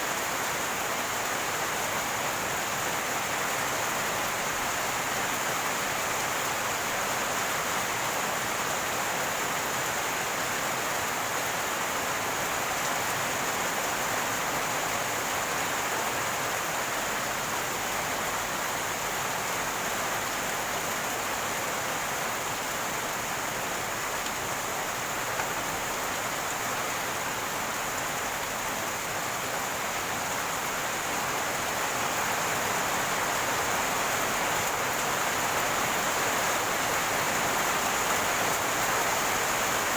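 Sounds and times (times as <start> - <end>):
rainwater running and gurgling: 0.0 - 39.9.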